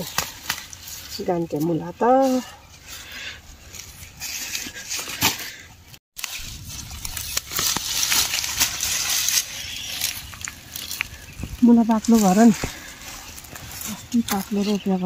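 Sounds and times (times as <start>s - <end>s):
leaves rustling and crackling: 0.0s - 15.0s.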